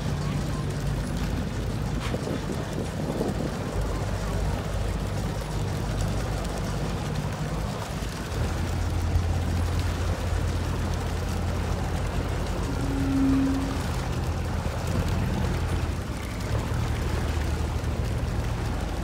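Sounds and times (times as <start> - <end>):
boat engine humming: 0.0 - 19.0
rushing water: 0.0 - 19.0
wind: 0.0 - 19.0.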